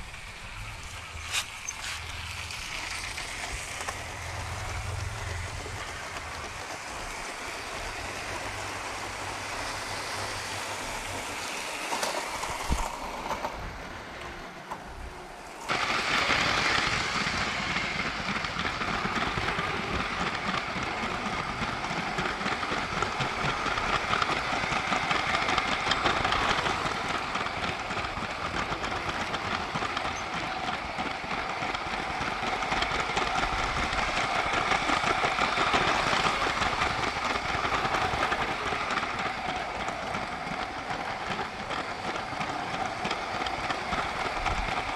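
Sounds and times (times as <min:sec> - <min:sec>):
train wheels clicking on track: 0:00.0 - 0:44.9
electric toy train motor whirring: 0:00.8 - 0:13.4, 0:15.7 - 0:44.9.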